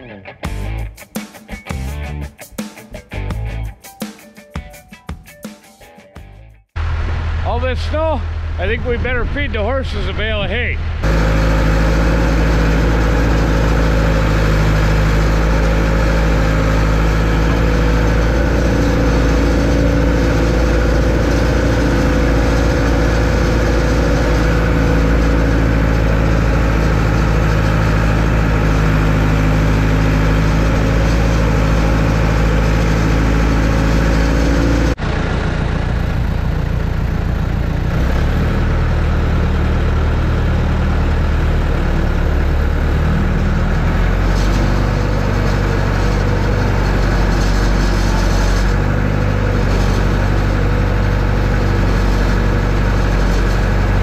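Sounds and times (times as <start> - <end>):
loader engine running: 6.7 - 54.0.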